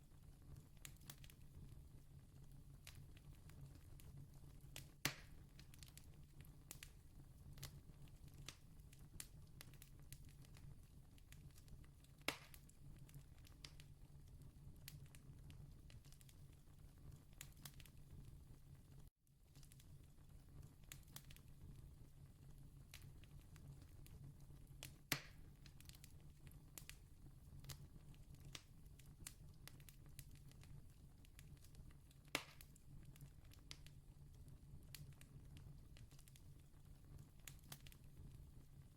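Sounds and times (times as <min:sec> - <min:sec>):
loud fire snaps: 0:00.5 - 0:01.6, 0:02.8 - 0:18.2, 0:19.5 - 0:21.7, 0:22.8 - 0:38.3
campfire crackling and popping: 0:00.5 - 0:18.2, 0:19.5 - 0:21.8, 0:22.8 - 0:38.6.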